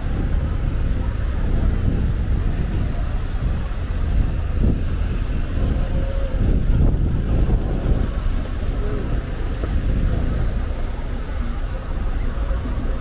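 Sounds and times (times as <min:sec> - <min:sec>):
passing cars rumbling: 0:00.0 - 0:13.0.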